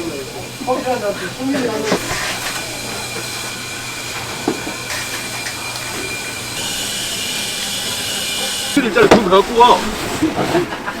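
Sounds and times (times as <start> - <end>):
mechanical hum with hiss: 0.0 - 11.0.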